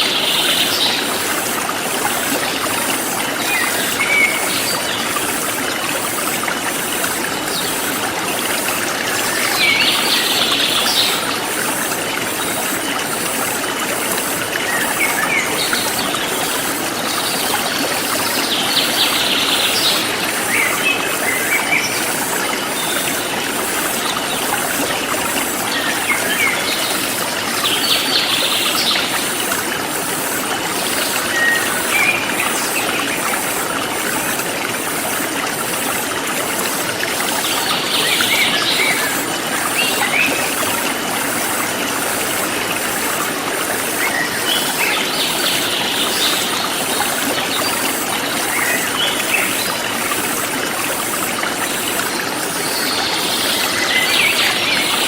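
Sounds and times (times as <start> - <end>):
forest stream flowing: 0.0 - 55.0.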